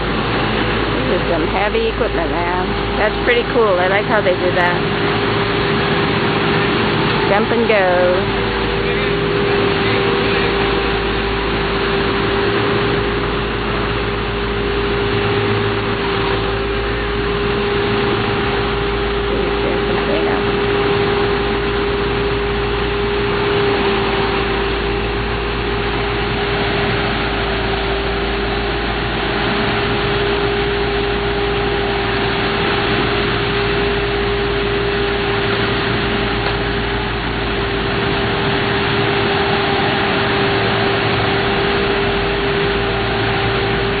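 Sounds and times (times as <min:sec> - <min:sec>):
constant steady whine: 0:00.0 - 0:44.0
diesel engines running: 0:00.0 - 0:44.0.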